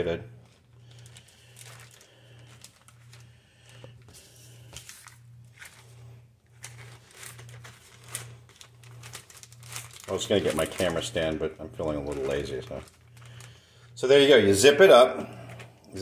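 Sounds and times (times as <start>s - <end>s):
low pulsing hum: 0.0s - 14.2s
plastic bag crinkling: 0.3s - 14.0s.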